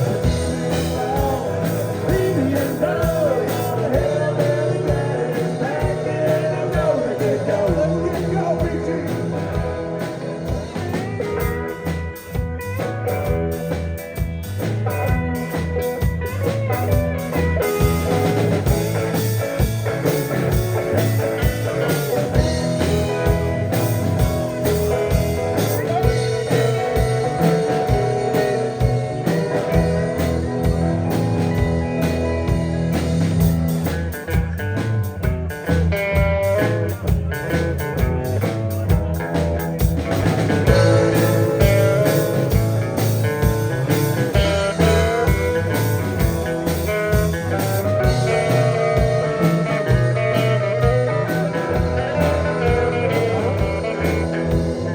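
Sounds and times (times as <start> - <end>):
blues-rock band playing: 0.0 - 54.9
electric guitar: 0.0 - 54.9.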